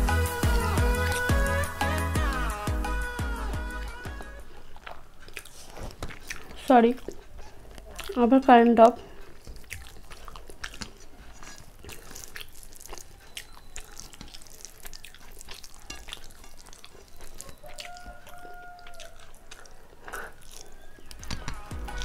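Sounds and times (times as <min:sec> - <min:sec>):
person chewing wetly: 0:04.1 - 0:22.0.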